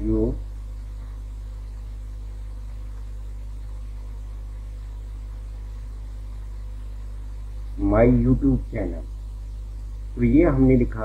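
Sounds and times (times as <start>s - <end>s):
faint hiss: 0.0s - 11.0s
low electrical hum: 0.0s - 11.0s.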